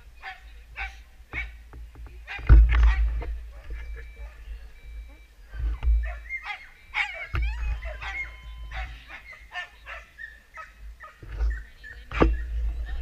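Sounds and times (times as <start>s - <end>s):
dogs yelping and barking: 0.2s - 1.6s, 2.2s - 13.0s.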